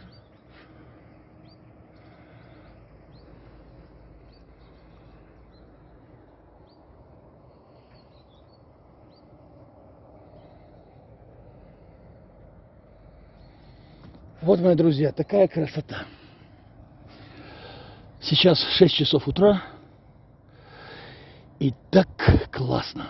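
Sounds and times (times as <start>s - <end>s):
small birds chirping: 0.0s - 21.8s
low outdoor background noise: 0.0s - 23.0s.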